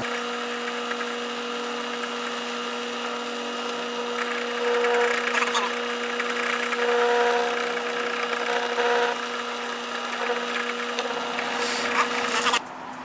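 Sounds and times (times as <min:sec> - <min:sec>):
drill press cutting wood: 0:00.0 - 0:12.6.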